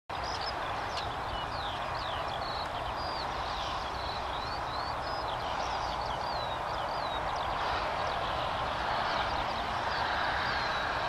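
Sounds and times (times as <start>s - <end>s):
birds singing: 0.1s - 11.0s
steady rushing noise with rumble: 0.1s - 11.0s.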